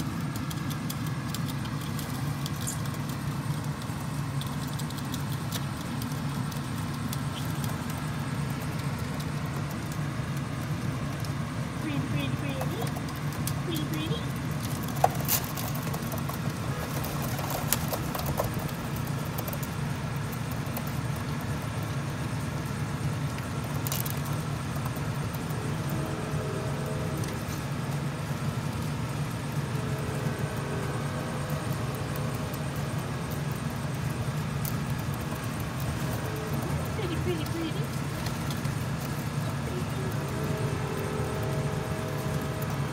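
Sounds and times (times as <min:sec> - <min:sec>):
low hum of city background: 0:00.0 - 0:42.9.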